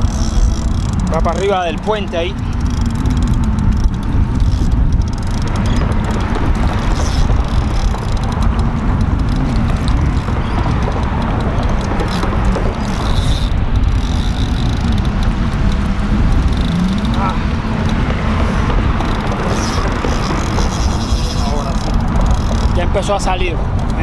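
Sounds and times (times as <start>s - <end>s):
road traffic: 0.0s - 24.0s
wind buffeting microphone: 0.0s - 24.0s.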